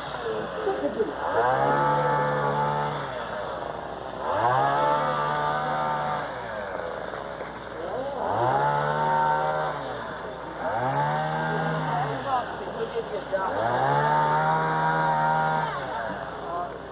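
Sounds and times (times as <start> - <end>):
small gasoline engine revving: 0.0 - 16.9.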